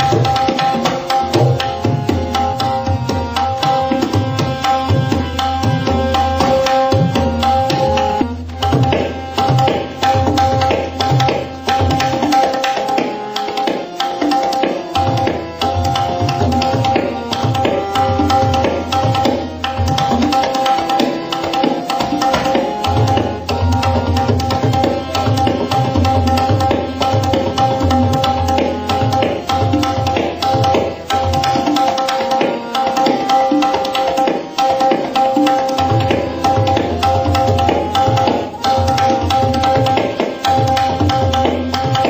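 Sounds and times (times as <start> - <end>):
melodic accompaniment steady notes: 0.0 - 42.0
tabla strokes: 0.0 - 42.0.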